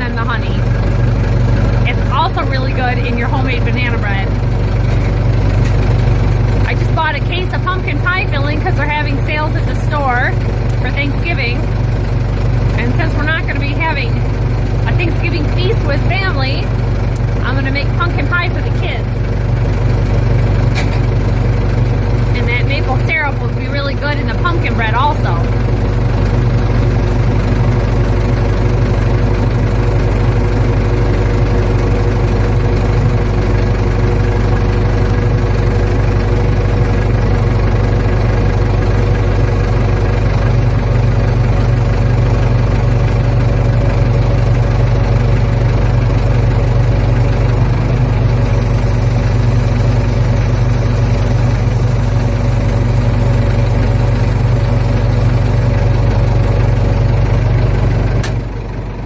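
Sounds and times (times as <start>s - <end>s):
backhoe engine running: 0.0s - 59.0s.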